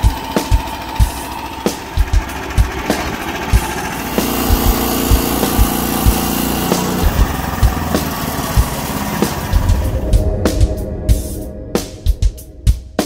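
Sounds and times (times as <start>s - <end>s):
petrol engine running: 0.0s - 10.6s
music with thumping beat: 0.0s - 13.0s.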